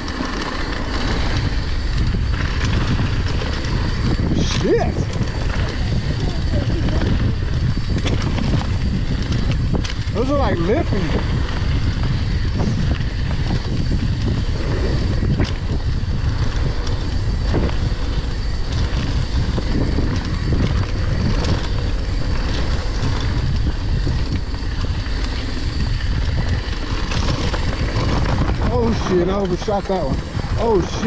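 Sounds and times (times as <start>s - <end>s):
bike tyres rumbling over dirt: 0.0s - 31.0s
wind rushing over microphone: 0.0s - 31.0s.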